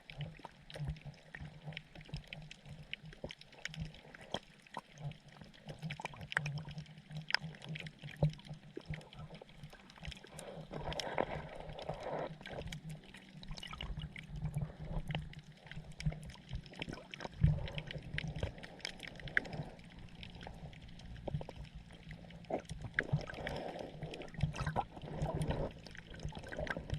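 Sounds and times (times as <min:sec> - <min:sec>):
underwater water noise: 0:00.0 - 0:26.9.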